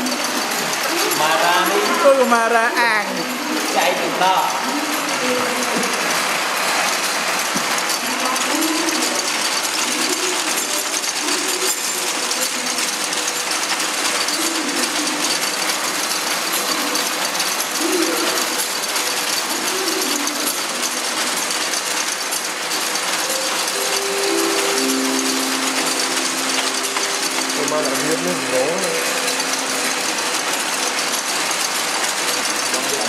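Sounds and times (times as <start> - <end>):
braiding machine metallic clatter: 0.0 - 33.0.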